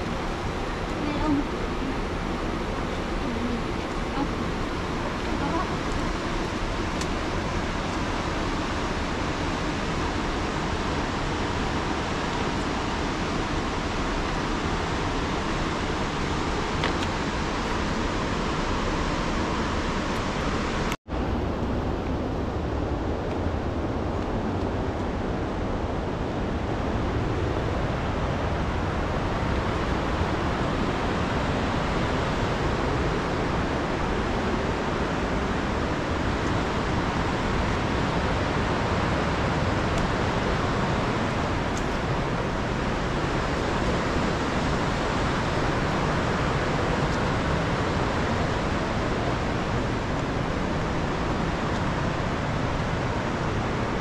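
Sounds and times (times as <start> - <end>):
river rapids roaring: 0.0 - 54.0.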